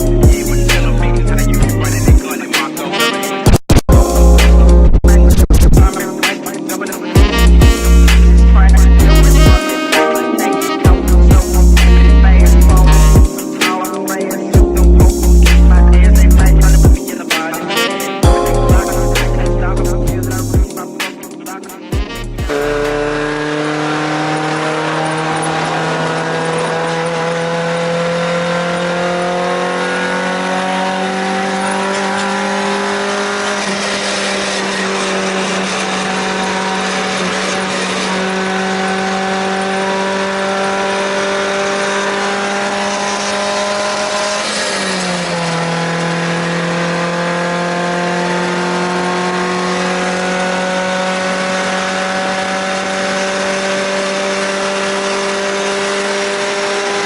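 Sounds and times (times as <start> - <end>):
car engine at high revs: 0.0 - 20.5, 22.0 - 57.0.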